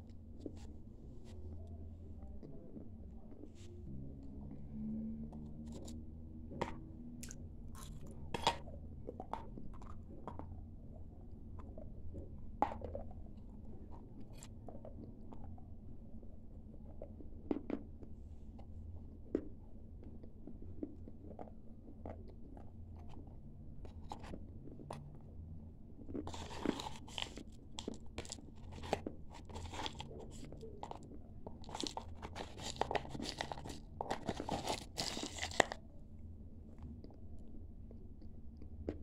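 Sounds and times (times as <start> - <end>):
clay crunching while chewed: 5.4 - 15.7, 16.7 - 39.0
soft chewing clicks: 6.6 - 39.0.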